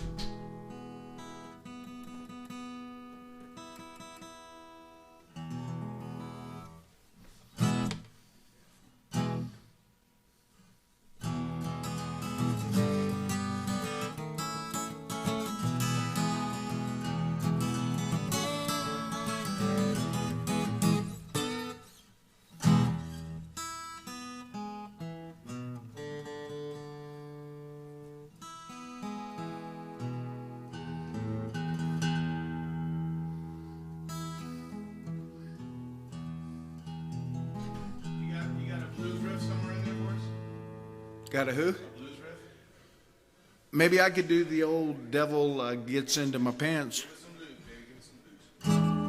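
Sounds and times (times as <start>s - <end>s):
guitar strumming: 0.0s - 8.4s, 9.1s - 9.7s, 11.2s - 42.2s, 48.6s - 49.0s.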